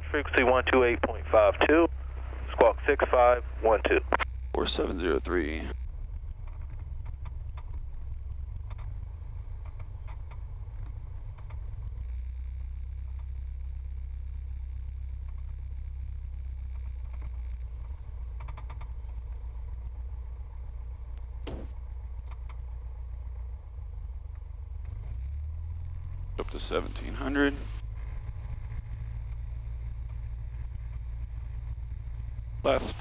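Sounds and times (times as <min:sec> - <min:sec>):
aircraft piston engine droning: 0:00.0 - 0:12.9, 0:13.6 - 0:33.0.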